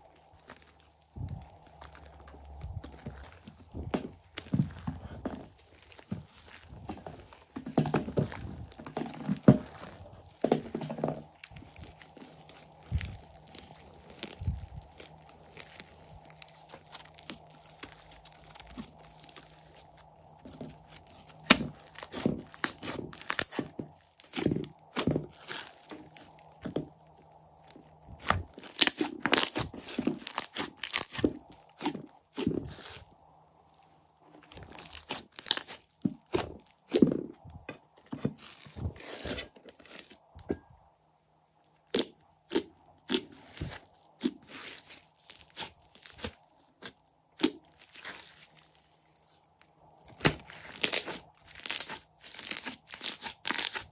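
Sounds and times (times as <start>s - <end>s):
crunchy slime crackling: 0.0s - 40.7s, 41.4s - 53.9s.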